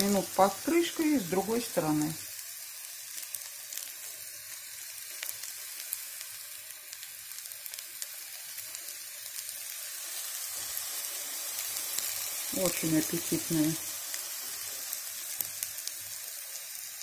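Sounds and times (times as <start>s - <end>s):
oil crackling and popping: 0.0s - 17.0s
patties sizzling in a frying pan: 0.0s - 17.0s.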